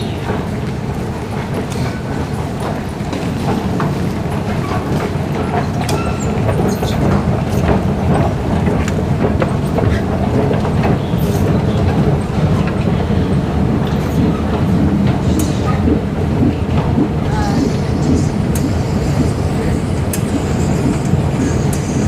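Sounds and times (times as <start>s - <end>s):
train rumbling on rails: 0.0s - 22.0s
train wheel clicks: 0.0s - 22.0s.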